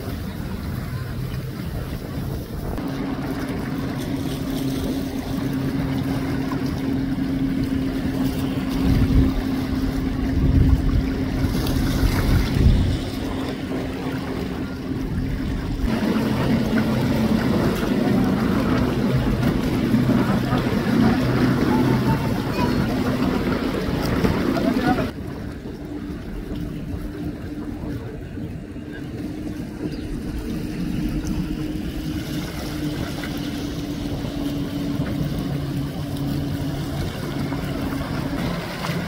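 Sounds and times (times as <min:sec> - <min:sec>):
boat engine drone: 0:00.0 - 0:39.0
water noise: 0:00.0 - 0:39.0
wind on microphone: 0:00.0 - 0:39.0.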